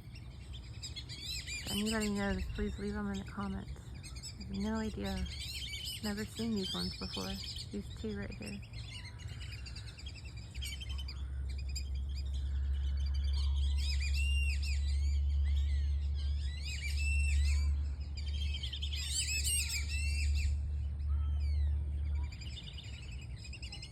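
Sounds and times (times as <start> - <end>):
birds chirping: 0.0 - 23.9
steady low rumble: 0.0 - 23.9.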